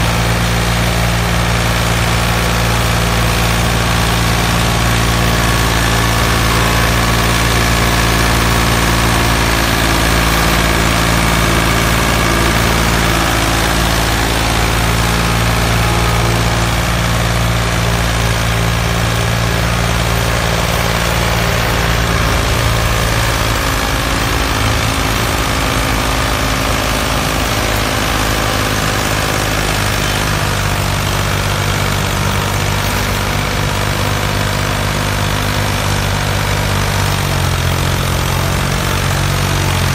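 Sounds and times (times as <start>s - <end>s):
engine idling with low hum: 0.0s - 39.9s.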